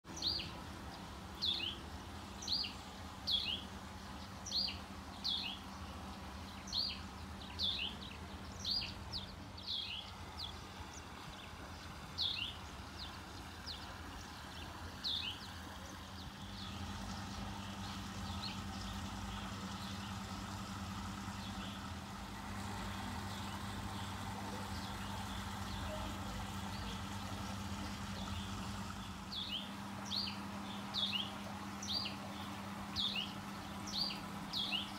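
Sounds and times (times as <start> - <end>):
bird chirping: 0.1 - 1.8, 2.4 - 20.6, 23.3 - 34.9
steady low hum: 0.1 - 34.9.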